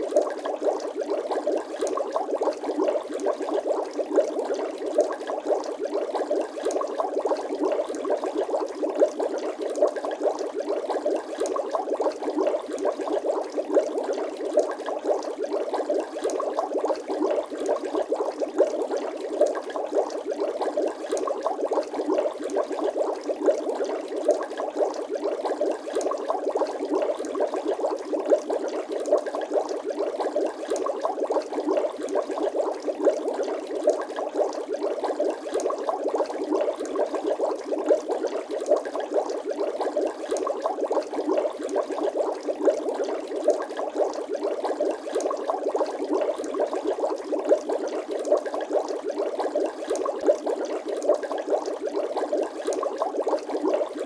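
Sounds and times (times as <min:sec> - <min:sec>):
dense bubbling: 0:00.0 - 0:54.0.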